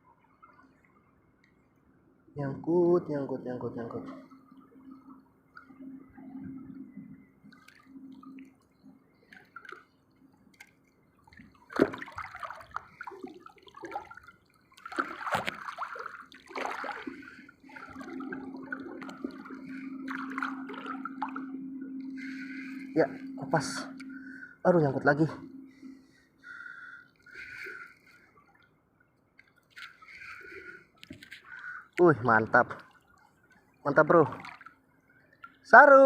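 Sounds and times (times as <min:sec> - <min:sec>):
water sloshing and splashing: 0:03.1 - 0:35.9.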